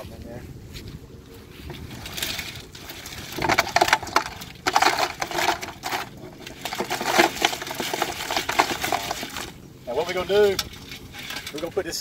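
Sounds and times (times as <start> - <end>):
crawfish shells rattling: 1.6 - 12.0.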